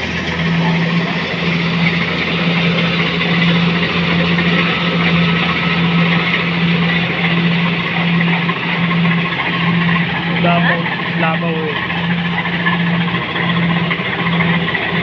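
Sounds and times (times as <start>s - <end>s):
harvester engine humming: 0.0s - 15.0s.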